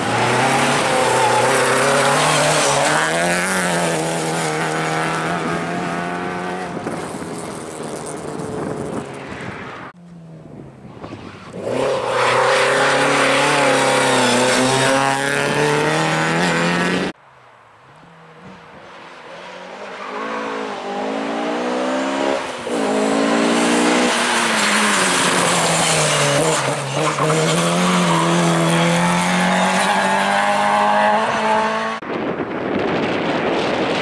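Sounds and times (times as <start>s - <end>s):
rally car engine at high revs: 0.0s - 9.0s, 11.4s - 17.2s, 19.5s - 32.0s.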